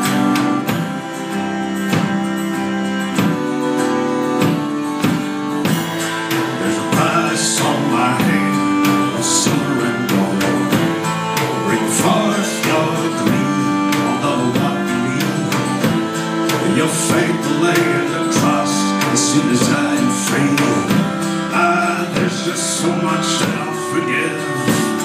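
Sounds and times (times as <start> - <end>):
acoustic guitar strumming: 0.0 - 25.0
fiddle bowing: 0.0 - 25.0.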